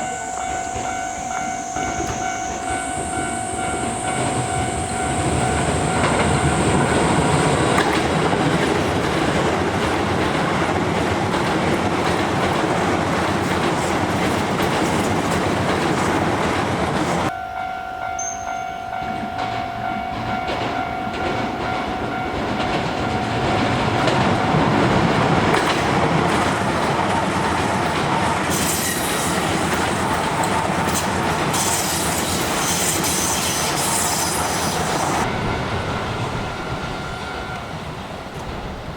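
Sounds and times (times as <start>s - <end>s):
electric trains passing: 0.0s - 38.9s
wheels clacking over rail joints: 1.7s - 17.3s, 19.2s - 38.9s.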